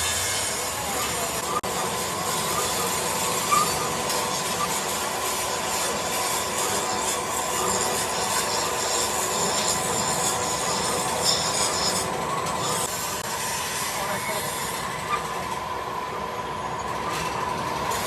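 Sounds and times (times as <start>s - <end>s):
industrial machinery hum: 0.0s - 18.0s.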